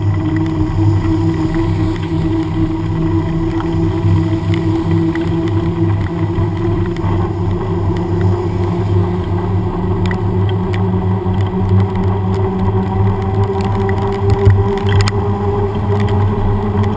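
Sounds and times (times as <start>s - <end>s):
bicycle tyre humming on wet road: 0.0s - 16.9s.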